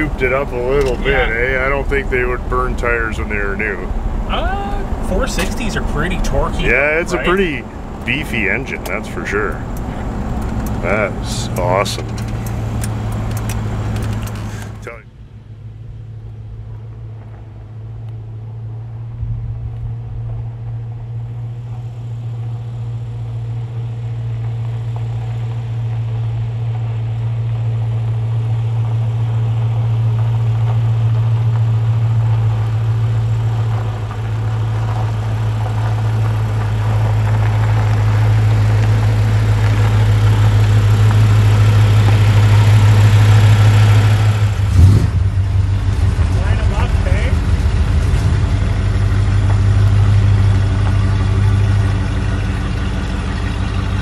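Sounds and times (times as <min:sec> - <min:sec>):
car engine rumbling: 0:00.0 - 0:54.0.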